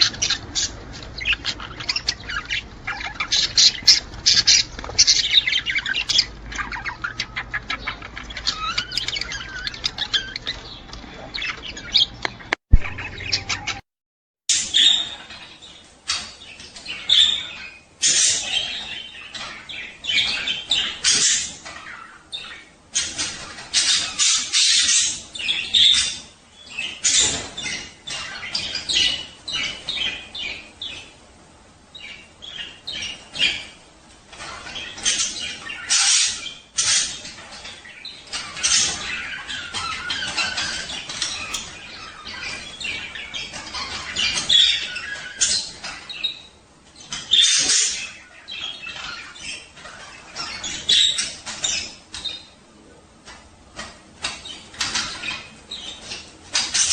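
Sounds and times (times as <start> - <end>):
budgerigars chattering: 0.0 - 13.8, 14.5 - 31.2, 32.0 - 52.6, 53.8 - 56.9.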